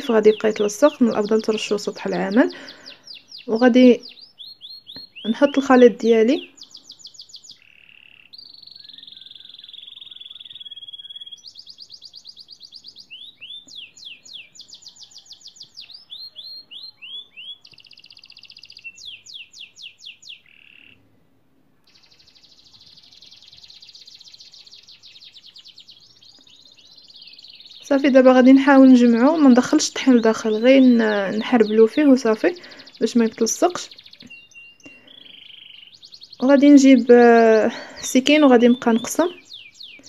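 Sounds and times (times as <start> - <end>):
songbird singing: 0.0 - 40.0.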